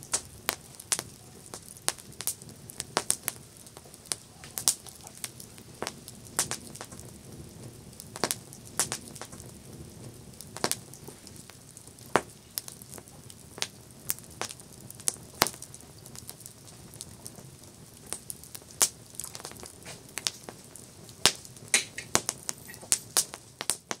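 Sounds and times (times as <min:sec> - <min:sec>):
campfire crackling: 0:00.0 - 0:24.0
soft hiss of flames: 0:00.0 - 0:24.0.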